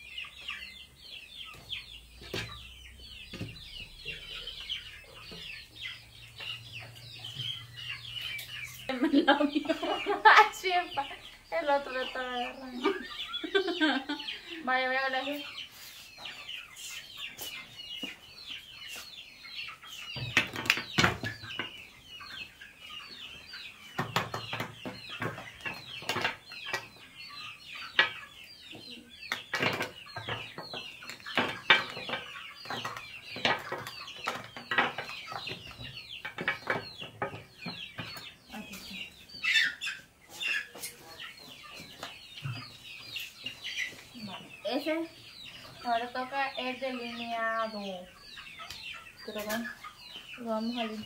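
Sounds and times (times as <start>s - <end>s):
chickens peeping: 0.0s - 51.0s.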